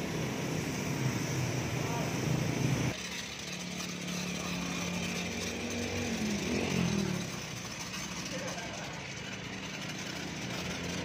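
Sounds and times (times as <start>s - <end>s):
motor humming: 0.1s - 11.0s.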